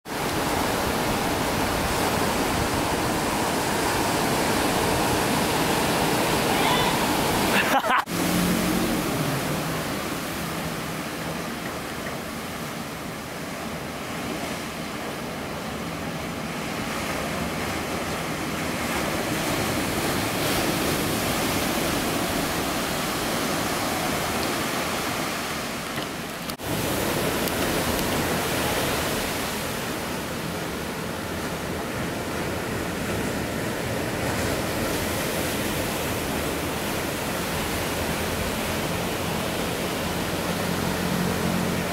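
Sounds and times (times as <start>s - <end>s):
ocean surf breaking: 0.1s - 41.9s.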